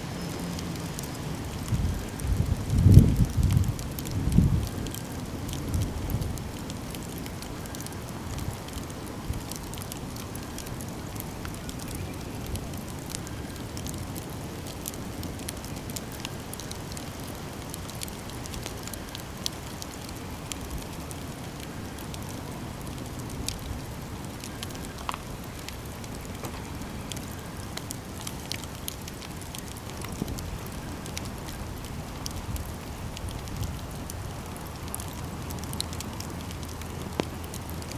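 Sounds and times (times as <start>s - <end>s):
campfire flames crackling: 0.0s - 37.9s
fire pops: 0.8s - 37.9s.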